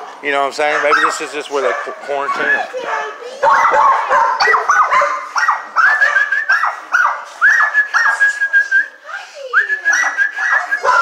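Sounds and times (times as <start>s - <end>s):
dogs whining and yelping: 0.7s - 8.5s, 9.3s - 11.0s.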